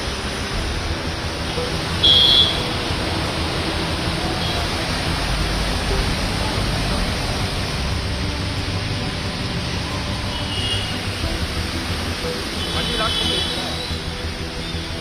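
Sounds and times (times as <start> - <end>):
heavy rain: 0.0 - 15.0
road traffic on wet streets: 0.0 - 15.0.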